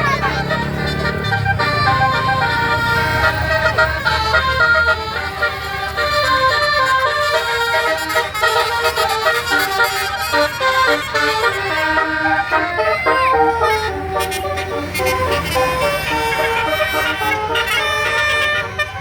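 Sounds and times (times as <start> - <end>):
low engine rumble: 0.0 - 19.0
multi-tone bus horn melody: 0.0 - 19.0.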